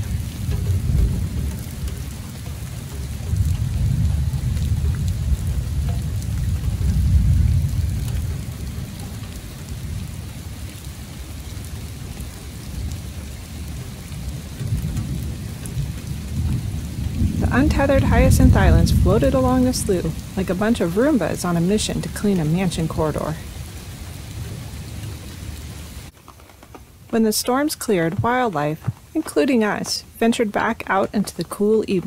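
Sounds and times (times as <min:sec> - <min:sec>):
thunder rumbling: 0:00.0 - 0:26.2, 0:26.9 - 0:32.0
rain on wet ground: 0:00.0 - 0:32.0.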